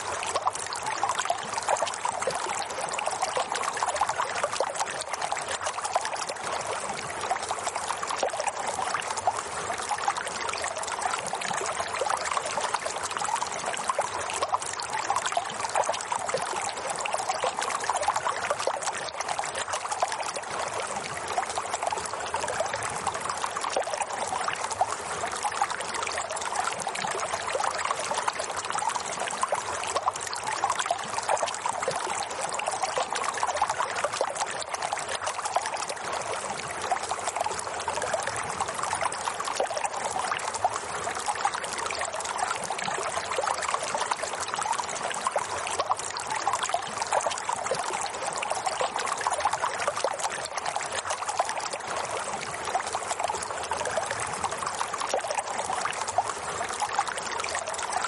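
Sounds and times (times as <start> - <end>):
running water trickling: 0.0 - 58.0.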